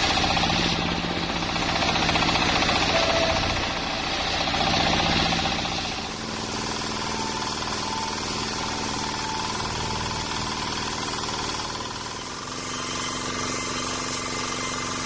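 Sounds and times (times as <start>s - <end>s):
sawmill machine running: 0.0s - 15.0s.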